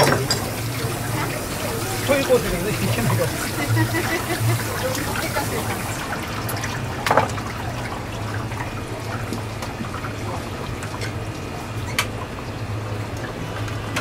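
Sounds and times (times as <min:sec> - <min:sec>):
hands rinsing raw meat: 0:00.0 - 0:14.0
water running and dripping: 0:00.0 - 0:14.0
steady low hum: 0:00.2 - 0:11.7.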